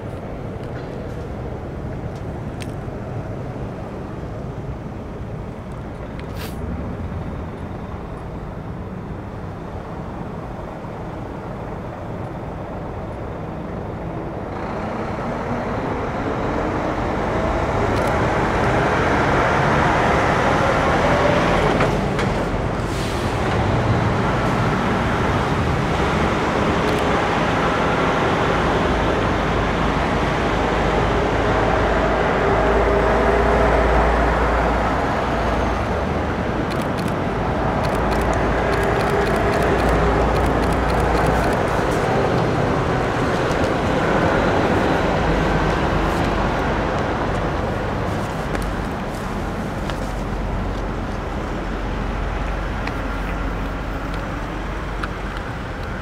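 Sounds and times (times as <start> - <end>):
diesel truck engine rumble: 0.0 - 56.0
road noise: 0.0 - 56.0.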